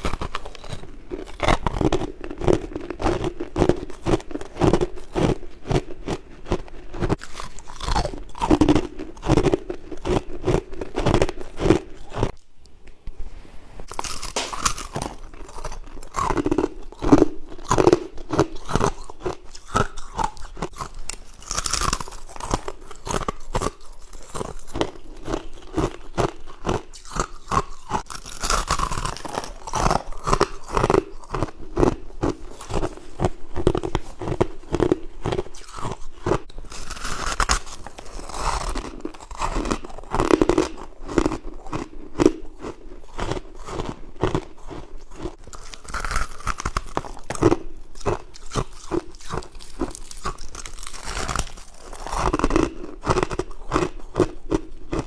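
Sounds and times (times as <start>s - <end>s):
person chewing crunchy frost: 0.0s - 12.4s, 13.8s - 55.0s.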